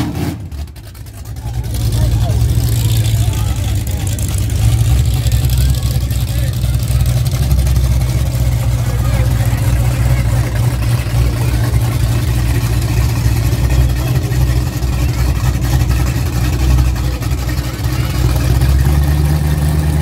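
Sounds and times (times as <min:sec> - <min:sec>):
engine idling low rumble: 0:00.0 - 0:20.0.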